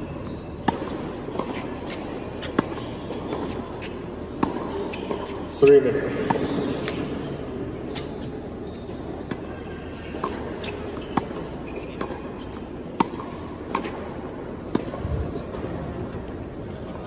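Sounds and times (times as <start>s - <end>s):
tennis ball bouncing: 0.0s - 5.5s, 6.1s - 16.6s
racket hitting tennis ball: 0.6s - 5.5s, 6.1s - 8.3s, 9.2s - 16.6s.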